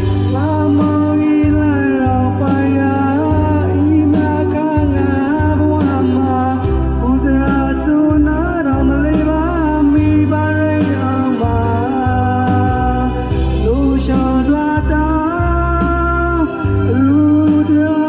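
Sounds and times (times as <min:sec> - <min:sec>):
instrumental backing track: 0:00.0 - 0:18.0
man singing with vibrato: 0:00.0 - 0:18.0.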